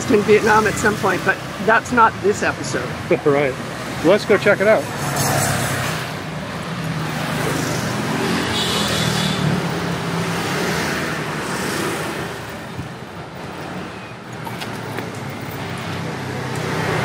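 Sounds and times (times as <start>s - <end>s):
hum of traffic: 0.0s - 17.0s
motorbike engines passing: 0.0s - 17.0s.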